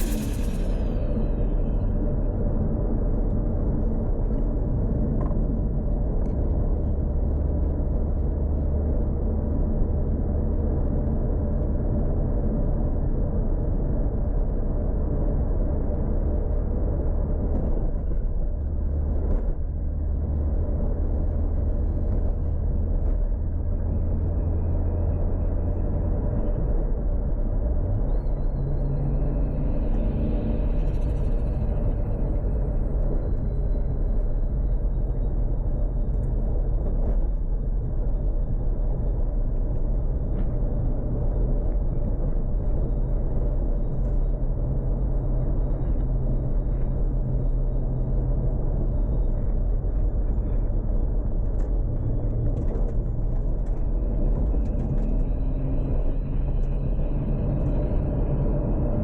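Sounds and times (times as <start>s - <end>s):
car engine deep rumble: 0.0s - 59.0s.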